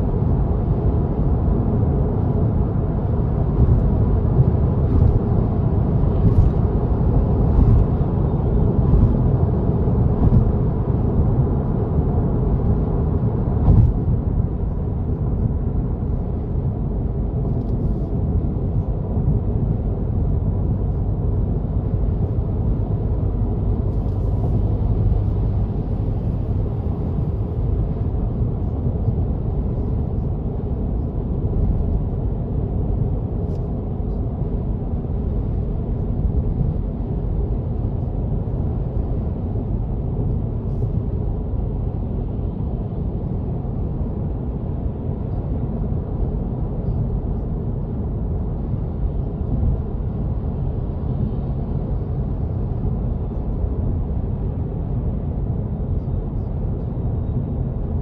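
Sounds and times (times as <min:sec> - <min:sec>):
car road and tyre rumble: 0:00.0 - 0:58.0.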